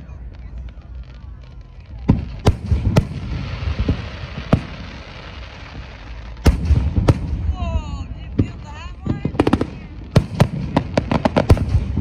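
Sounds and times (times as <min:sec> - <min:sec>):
firework crackling hiss: 0:00.0 - 0:12.0.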